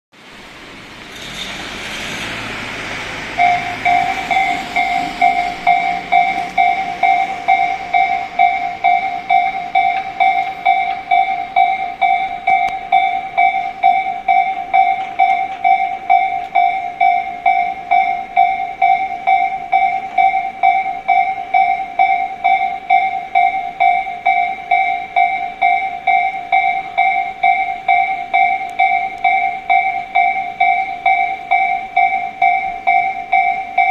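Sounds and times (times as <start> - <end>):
level-crossing warning bell: 0.2 - 33.9.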